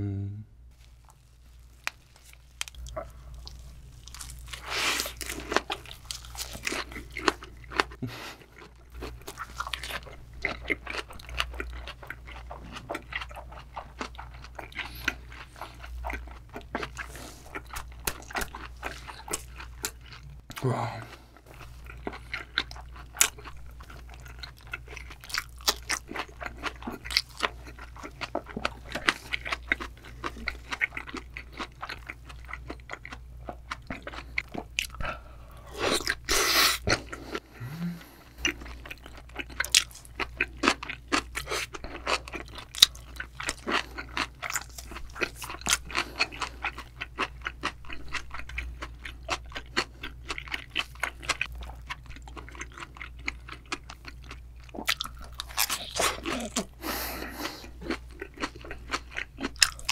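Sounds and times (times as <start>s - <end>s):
wet crunchy chewing: 0.8s - 20.6s, 21.5s - 37.4s, 38.3s - 59.9s.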